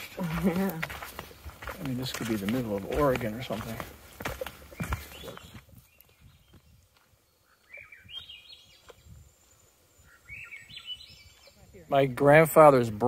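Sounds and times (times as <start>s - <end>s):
songbird singing faintly: 0.0s - 13.0s.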